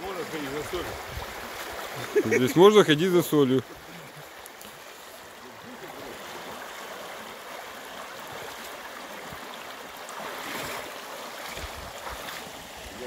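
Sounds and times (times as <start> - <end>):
legs wading through water: 0.0 - 13.0
river rushing over stones: 0.0 - 13.0.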